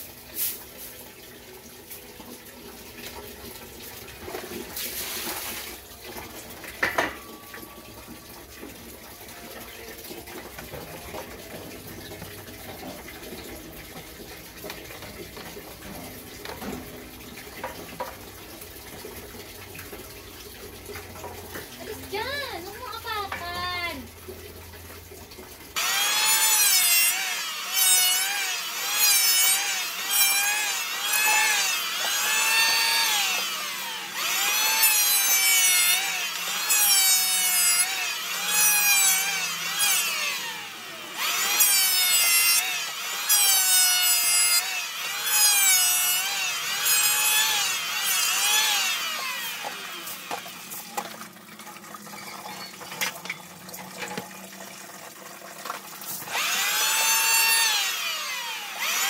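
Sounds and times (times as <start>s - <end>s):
circular saw cutting wood: 2.8s - 24.0s, 25.8s - 51.5s, 56.1s - 59.0s.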